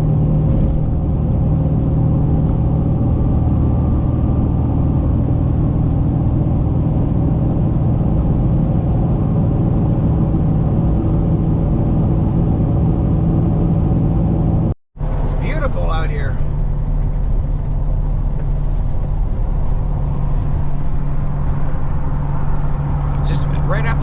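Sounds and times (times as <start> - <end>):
truck engine and road noise: 0.0 - 24.0.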